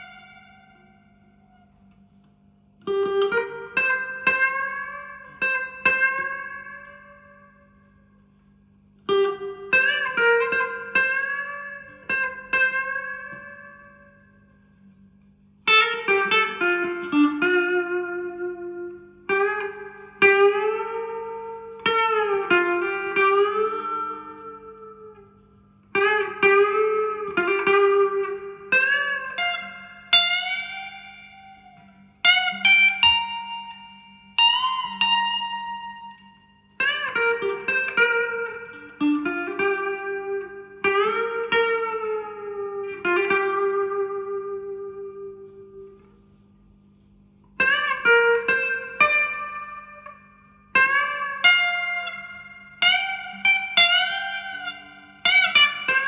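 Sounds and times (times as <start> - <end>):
amp hum: 0.0 - 56.0
electric guitar picked notes: 0.0 - 56.0.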